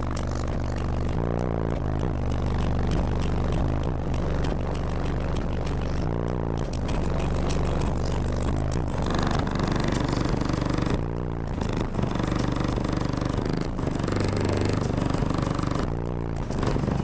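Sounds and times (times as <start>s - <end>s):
bass-heavy music from car audio: 0.0s - 17.0s.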